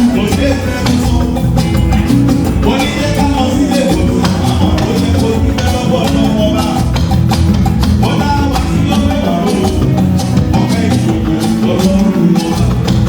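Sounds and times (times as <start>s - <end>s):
quick percussion beat: 0.0s - 13.0s.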